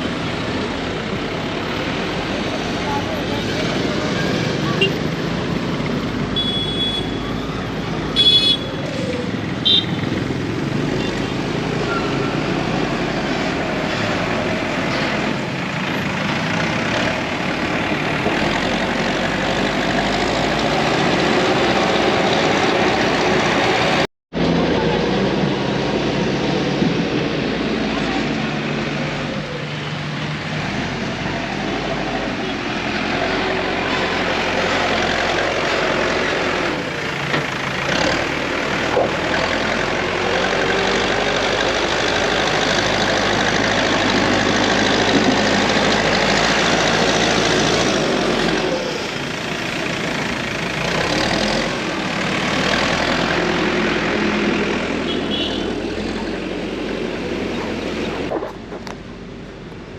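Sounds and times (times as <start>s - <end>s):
heavy vehicle engine running: 0.0s - 59.9s.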